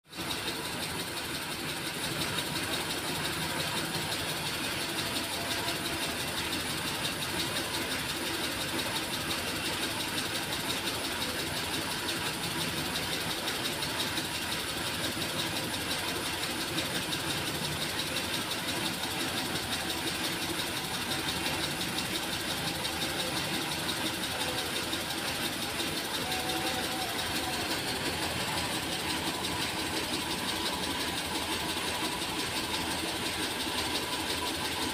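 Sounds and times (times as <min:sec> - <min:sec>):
machinery running: 0:00.2 - 0:34.9.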